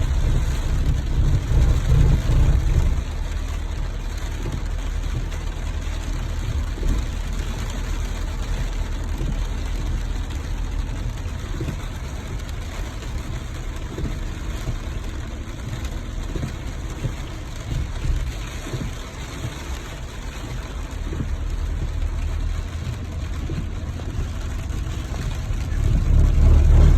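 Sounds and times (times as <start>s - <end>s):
car on wet road: 0.0s - 26.9s
rain hiss: 0.0s - 26.9s.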